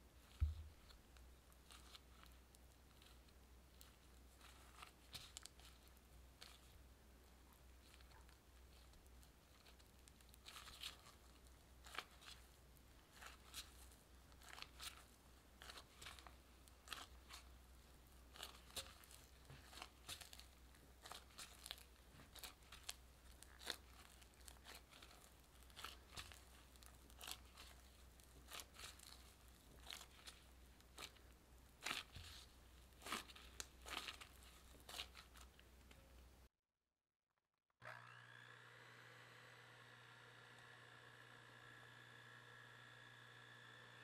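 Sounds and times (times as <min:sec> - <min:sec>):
hand kneading sticky dough: 0:00.0 - 0:36.5.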